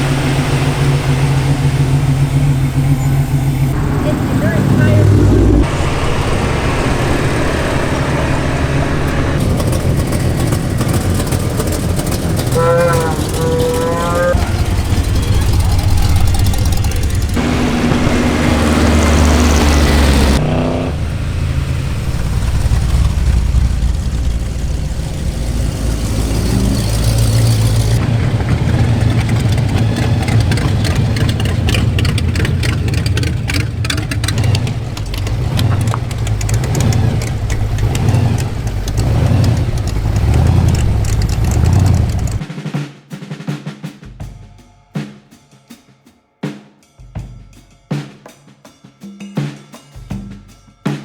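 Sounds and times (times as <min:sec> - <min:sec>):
car engines idling and revving: 0:00.0 - 0:42.5.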